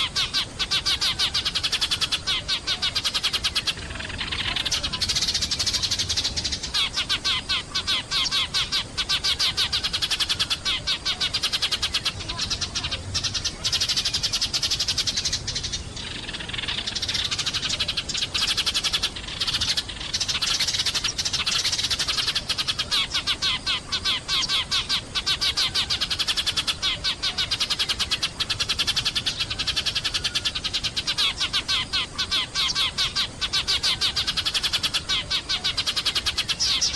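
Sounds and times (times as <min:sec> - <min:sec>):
sparrows chirping: 0:00.0 - 0:36.9.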